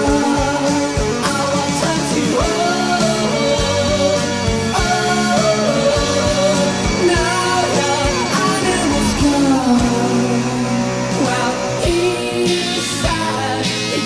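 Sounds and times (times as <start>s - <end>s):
rock song with sung vocal: 0.0s - 14.0s.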